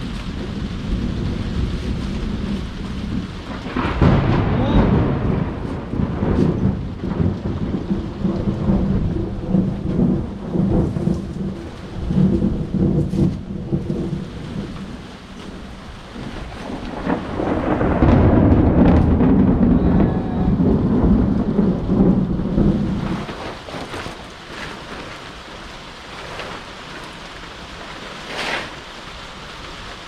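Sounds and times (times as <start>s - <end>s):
thunder rumbling: 0.0s - 29.6s
rain: 0.0s - 30.0s.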